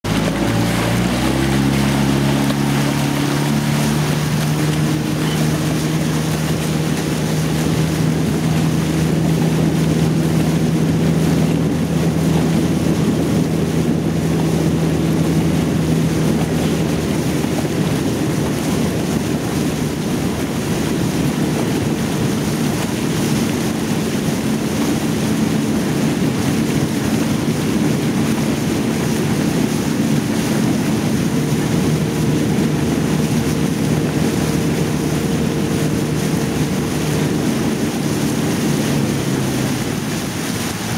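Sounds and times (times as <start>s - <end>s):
motorboat engine running: 0.0s - 40.9s
water rushing: 0.0s - 40.9s
wind noise on microphone: 0.0s - 40.9s.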